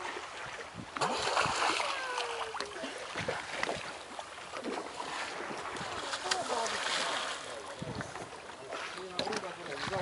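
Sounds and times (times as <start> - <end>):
sea water splashing along boat: 0.0 - 10.0.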